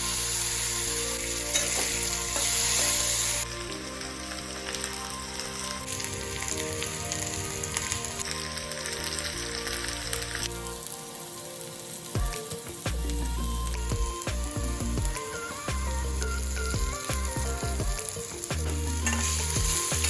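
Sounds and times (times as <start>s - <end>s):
background music: 0.0s - 20.0s
food sizzling in a pan: 0.0s - 20.0s.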